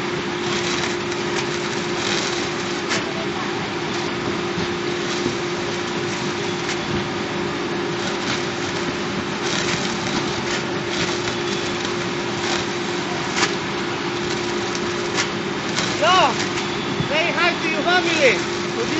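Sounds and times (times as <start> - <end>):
band sealer humming: 0.0 - 18.9
loud factory noise: 0.0 - 18.9
plastic packs clicking and rustling: 0.4 - 3.2, 3.8 - 7.0, 7.9 - 18.9.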